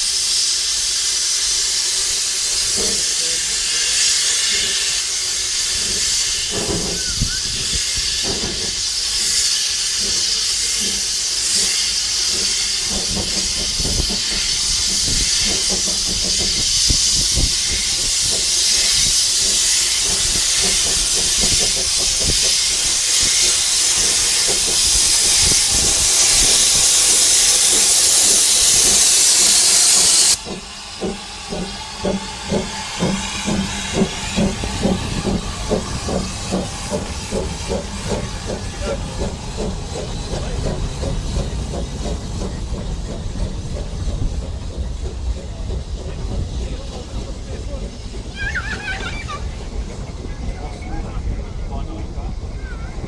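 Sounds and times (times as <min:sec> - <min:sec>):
locomotive puffs and clanks: 0:00.0 - 0:53.0
loud steam hiss: 0:00.0 - 0:53.0.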